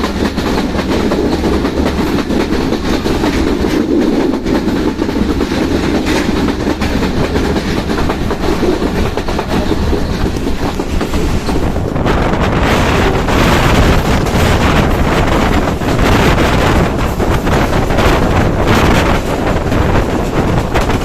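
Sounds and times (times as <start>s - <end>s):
train passing at speed: 0.0s - 21.0s
wheels clattering over rail joints: 0.0s - 21.0s.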